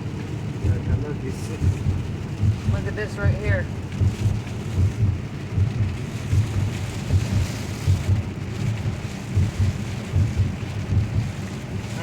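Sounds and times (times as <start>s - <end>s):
heavy rain on car: 0.0s - 12.0s.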